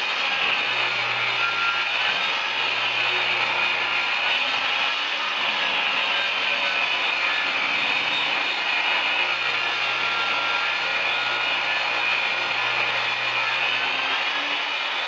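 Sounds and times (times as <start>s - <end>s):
power tool on wood: 0.0s - 15.0s.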